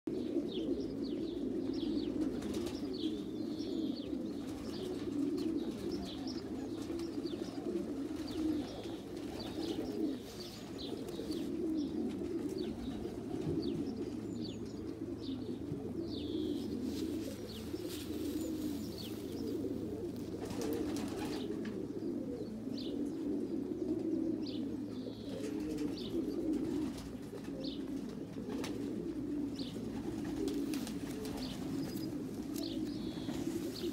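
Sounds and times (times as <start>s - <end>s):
pigeons cooing: 0.1s - 33.9s
small birds chirping: 0.5s - 28.8s, 29.5s - 33.9s.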